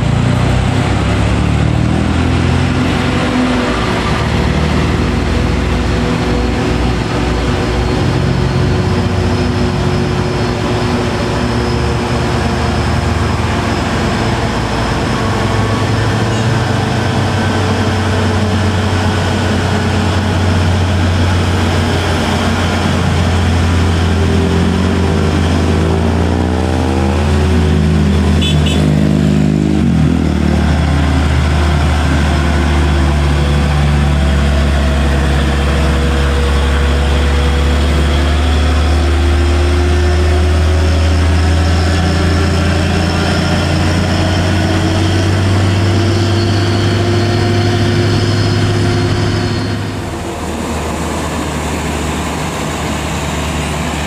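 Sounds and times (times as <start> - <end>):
diesel truck engine labouring: 0.0 - 54.0.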